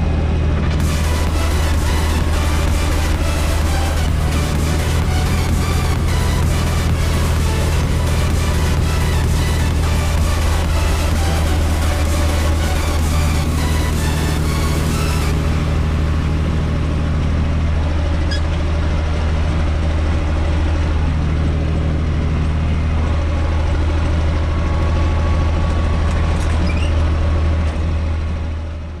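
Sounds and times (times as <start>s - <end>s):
tractor diesel engine humming: 0.0s - 29.0s.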